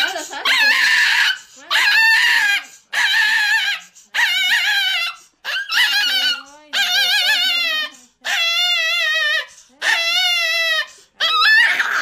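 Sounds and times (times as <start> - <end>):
small dog screaming: 0.0 - 12.0.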